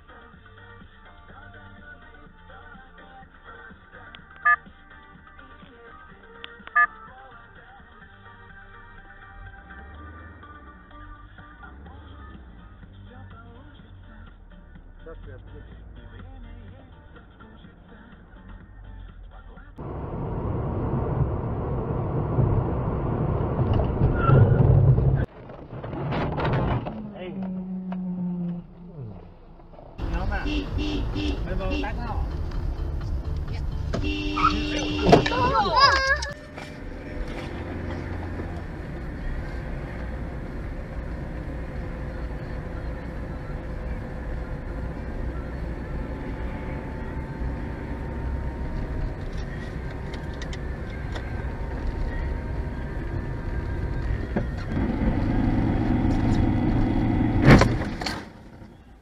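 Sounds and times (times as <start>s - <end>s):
road and wind noise in car: 0.0s - 59.0s.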